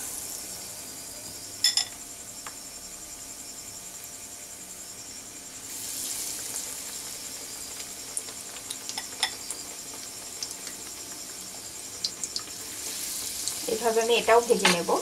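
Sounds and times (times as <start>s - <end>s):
bread sizzling in hot oil: 0.0s - 15.0s.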